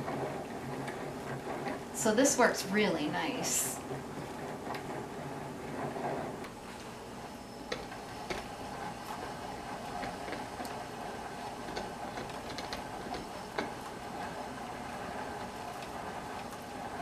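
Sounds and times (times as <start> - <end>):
ball winder whirring: 0.0 - 17.0.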